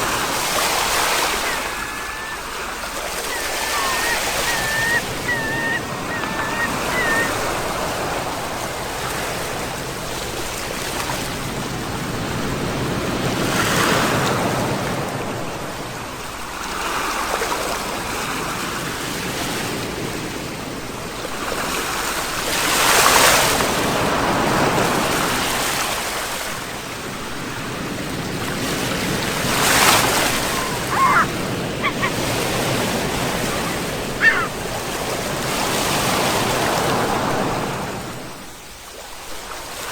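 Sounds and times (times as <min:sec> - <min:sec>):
sea waves breaking: 0:00.0 - 0:15.6, 0:21.4 - 0:39.9.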